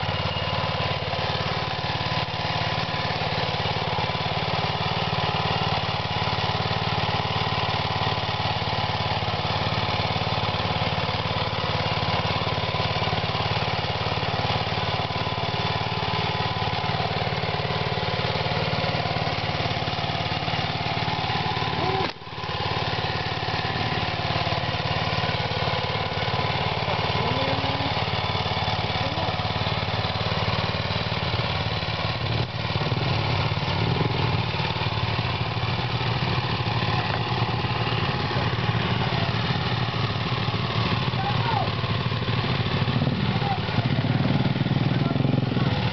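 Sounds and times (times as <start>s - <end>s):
small petrol engine running: 0.0s - 45.9s.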